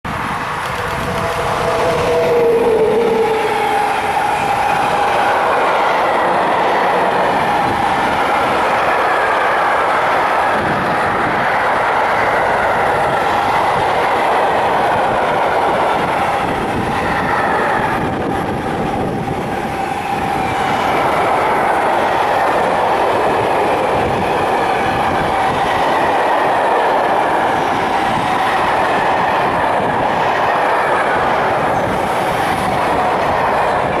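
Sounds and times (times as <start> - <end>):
freight train wheels rumbling: 0.1 - 34.0.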